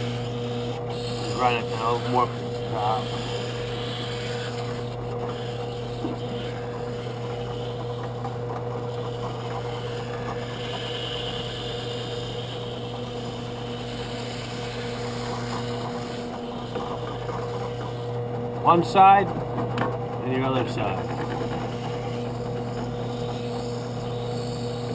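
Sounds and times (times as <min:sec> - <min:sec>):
drill press sanding feather: 0:00.0 - 0:24.9.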